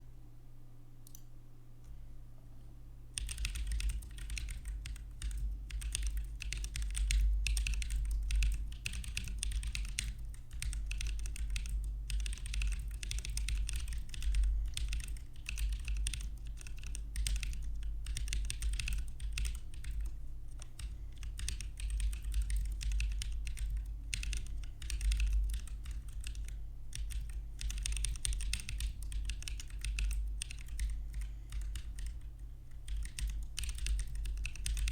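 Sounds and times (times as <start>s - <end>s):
mechanical keyboard typing: 3.2s - 34.9s.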